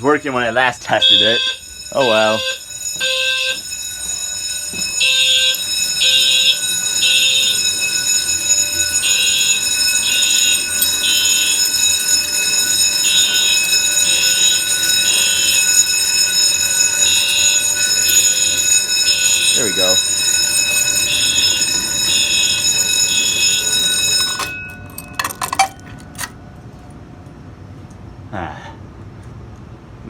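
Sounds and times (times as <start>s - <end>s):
steady high-pitched alarm tones: 0.0s - 26.4s
fire alarm horn blasts: 0.1s - 25.0s.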